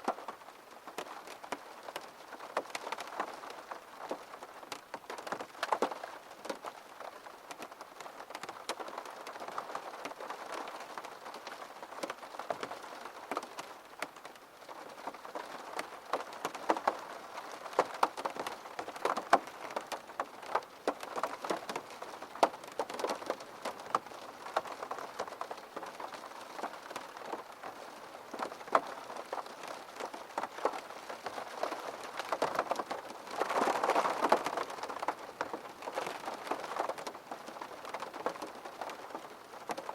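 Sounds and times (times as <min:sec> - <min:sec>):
rain on a hard surface: 0:00.0 - 0:39.9
raindrops ticking: 0:00.0 - 0:39.9.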